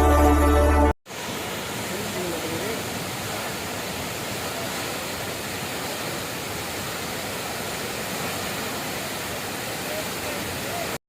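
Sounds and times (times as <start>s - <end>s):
waterfall rushing: 1.1s - 11.0s.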